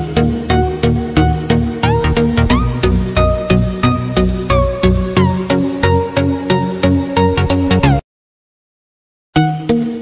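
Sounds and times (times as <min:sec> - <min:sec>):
electronic music with steady beat: 0:00.0 - 0:08.0.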